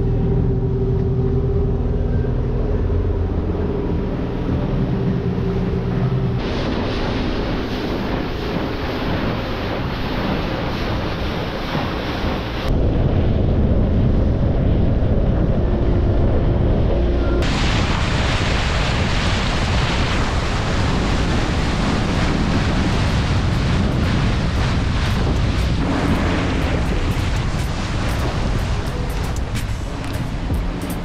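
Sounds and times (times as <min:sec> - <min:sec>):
boat rushing through water: 0:00.0 - 0:31.0
wind buffeting microphone: 0:00.0 - 0:31.0.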